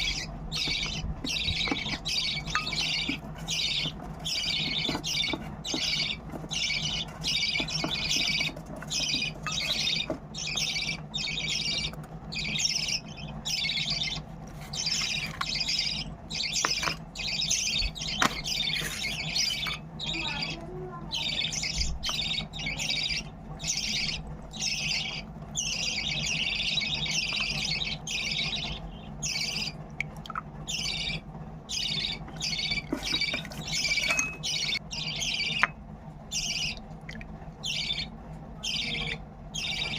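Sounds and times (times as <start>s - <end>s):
chicks raspy begging calls: 0.0s - 35.7s.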